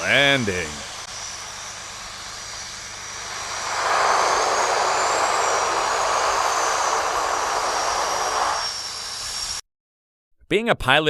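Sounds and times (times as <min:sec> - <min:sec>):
airplane engine noise: 0:00.0 - 0:09.6
thin high whine: 0:00.0 - 0:09.6.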